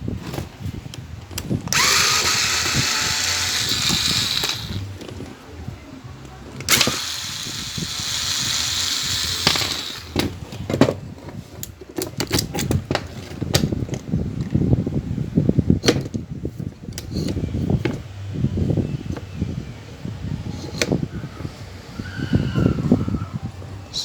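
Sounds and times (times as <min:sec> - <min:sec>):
fan motor parts clicking and rattling: 0:00.0 - 0:21.1.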